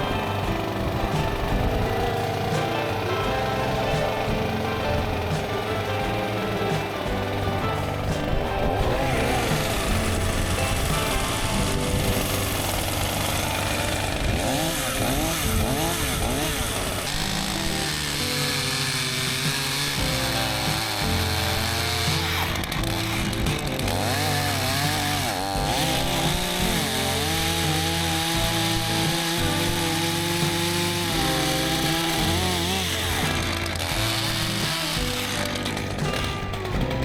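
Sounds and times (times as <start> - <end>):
background music with bass line: 0.0 - 37.0
chainsaw revving: 0.0 - 37.0.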